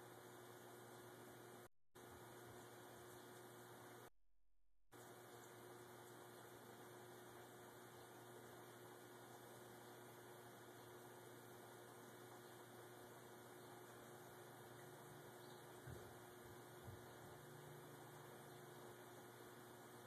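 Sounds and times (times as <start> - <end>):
low electrical hum: 0.0 - 4.1, 5.0 - 20.0.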